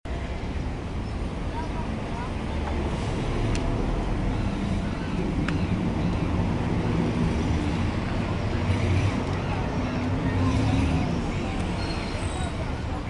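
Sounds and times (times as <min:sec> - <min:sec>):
low rumble of traffic: 0:00.1 - 0:13.0.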